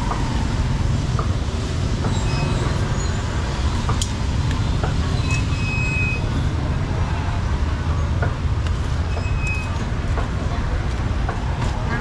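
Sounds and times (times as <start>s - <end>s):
motor traffic rumble: 0.0s - 12.0s.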